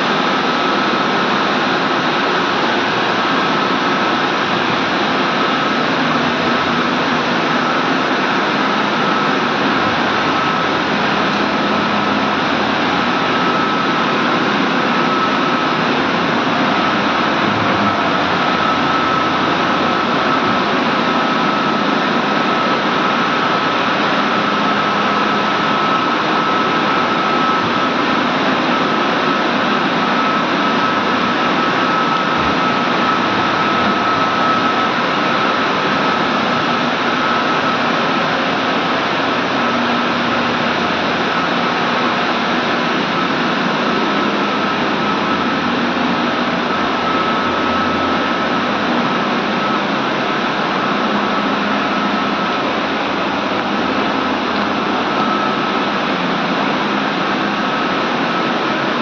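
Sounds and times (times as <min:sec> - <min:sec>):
boiler room machinery running: 0:00.0 - 0:59.0
high mechanical whine: 0:00.0 - 0:59.0.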